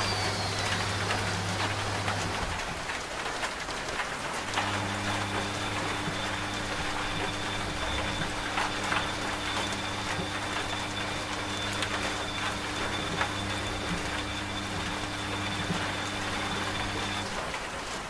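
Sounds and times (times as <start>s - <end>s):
washing machine motor hum: 0.0s - 18.0s
rain pattering: 0.7s - 18.0s.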